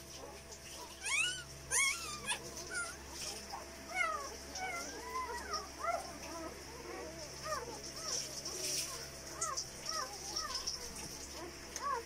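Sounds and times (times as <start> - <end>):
puppies squeaking and whimpering: 0.2 - 12.0.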